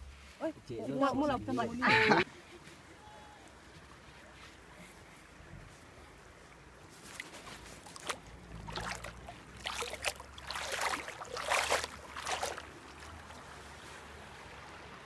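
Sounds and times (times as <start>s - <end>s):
feet splashing in stream water: 2.2s - 15.0s.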